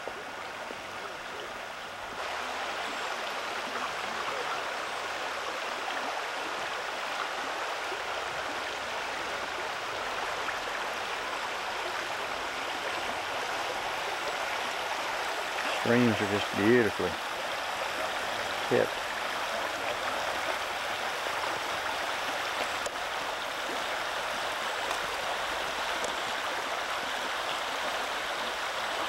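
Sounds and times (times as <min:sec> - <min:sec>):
creek babbling over rocks: 0:00.0 - 0:29.0.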